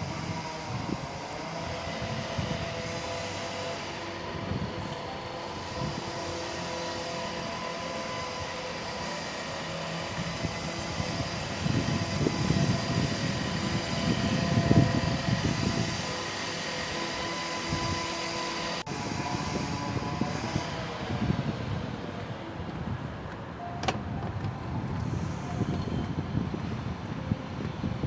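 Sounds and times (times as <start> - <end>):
passing vehicle whine and rumble: 0.0 - 28.0.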